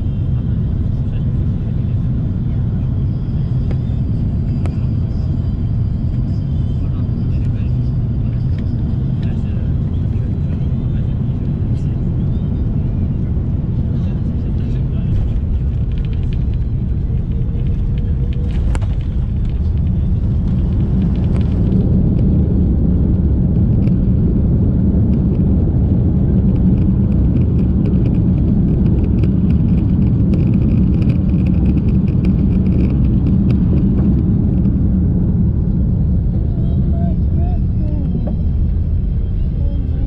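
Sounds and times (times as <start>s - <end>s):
jet engine rumble: 0.0s - 40.0s.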